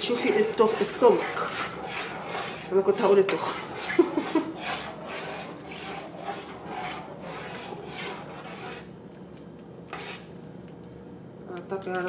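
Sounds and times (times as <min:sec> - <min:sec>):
spoon stirring and scraping: 0:00.0 - 0:10.8.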